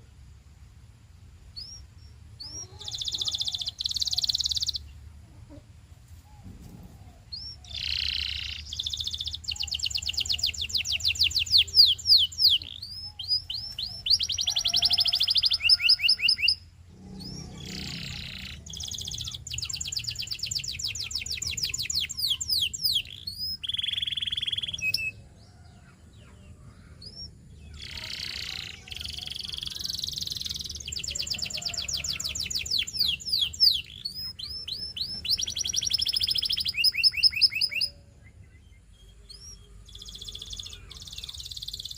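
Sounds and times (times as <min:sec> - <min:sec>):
canary singing trills: 0:01.5 - 0:05.6, 0:06.4 - 0:41.9.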